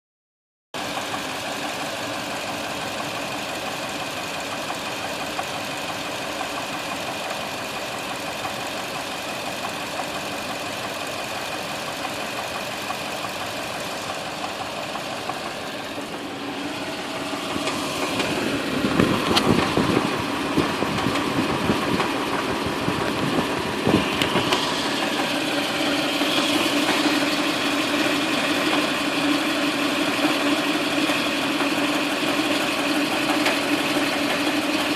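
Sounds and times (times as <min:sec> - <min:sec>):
car engine knocking: 0:00.8 - 0:34.9.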